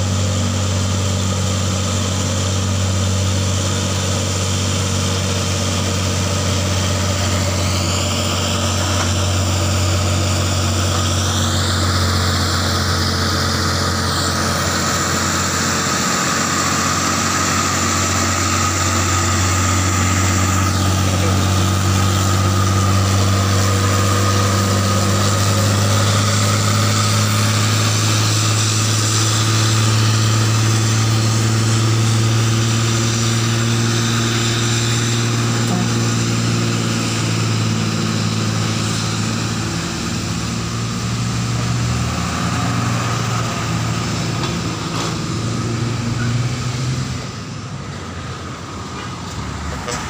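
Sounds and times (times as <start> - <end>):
truck diesel engine labouring: 0.0 - 50.0.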